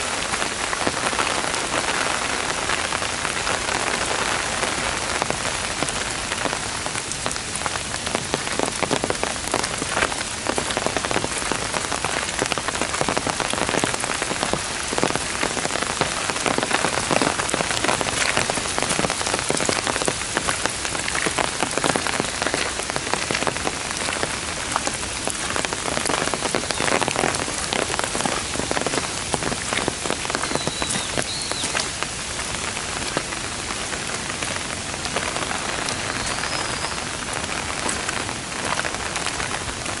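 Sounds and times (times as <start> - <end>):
heavy rain on trees and gravel: 0.0 - 40.0.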